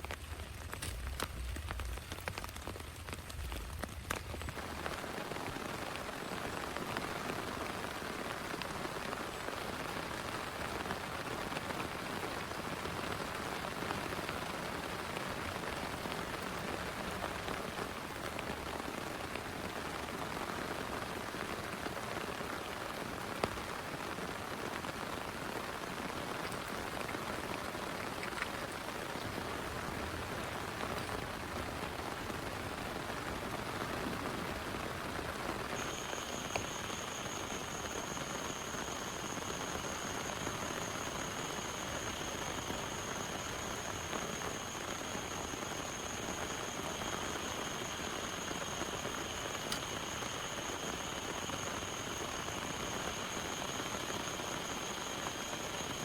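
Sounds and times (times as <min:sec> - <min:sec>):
heavy rain patter: 0:00.0 - 0:56.0.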